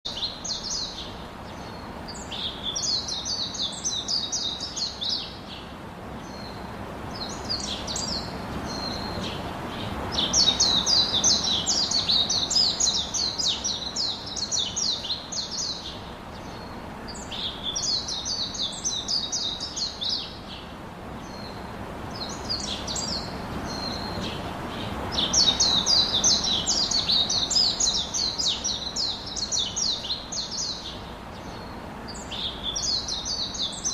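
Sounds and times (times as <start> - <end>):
songbird chirping: 0.1 - 33.9.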